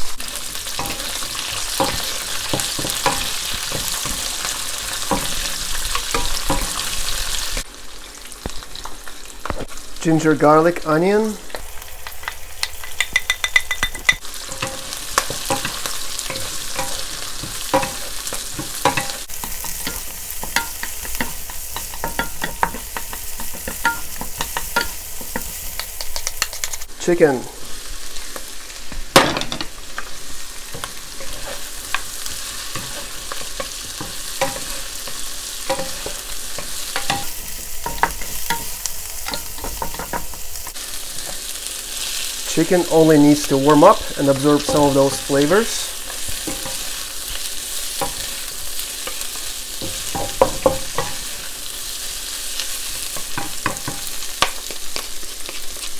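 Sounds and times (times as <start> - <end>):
utensil scraping wok: 0.0 - 7.7, 11.5 - 26.9, 27.7 - 55.9
stir-fry sizzling in wok: 0.0 - 55.9.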